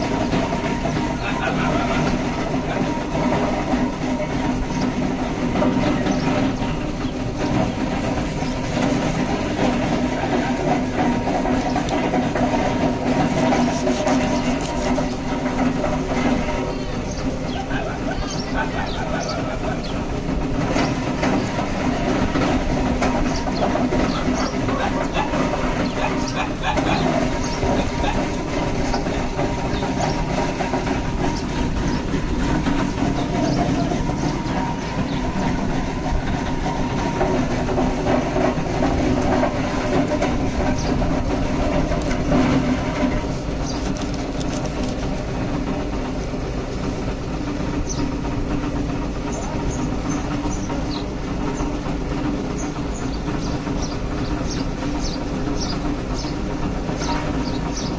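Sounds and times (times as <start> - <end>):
steady loud rumble: 0.0 - 57.9.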